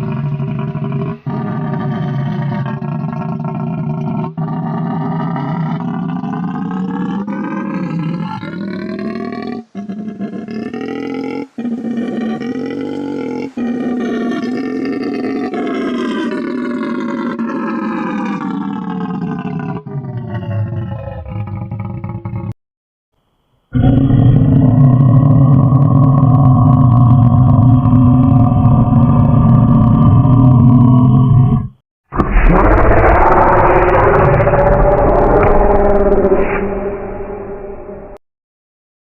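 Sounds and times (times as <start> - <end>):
monster roars: 0.0 - 22.6, 23.8 - 38.2.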